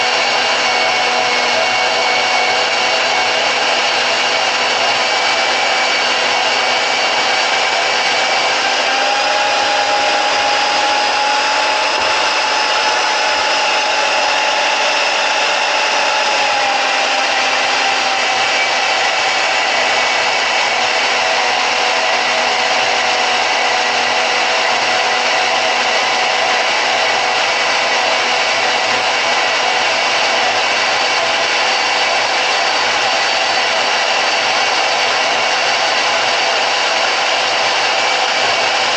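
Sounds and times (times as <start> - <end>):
band saw motor whine: 0.0 - 38.9.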